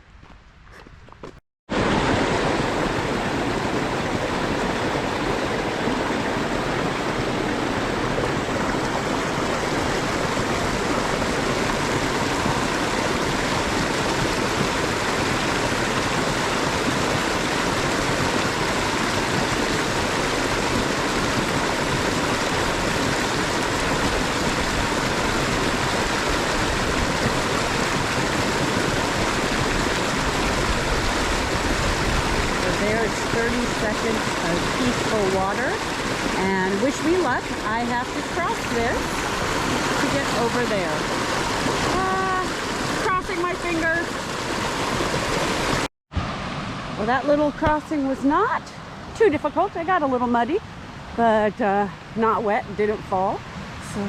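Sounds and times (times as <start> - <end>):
creek water rushing: 1.7 - 54.0.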